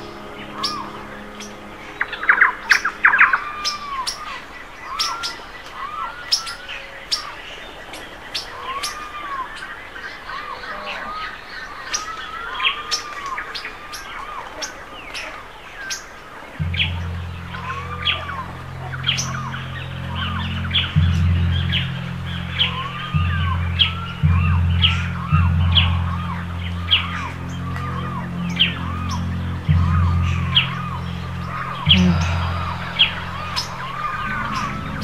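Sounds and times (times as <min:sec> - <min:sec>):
birds whistling and chirping: 0:00.0 - 0:35.0.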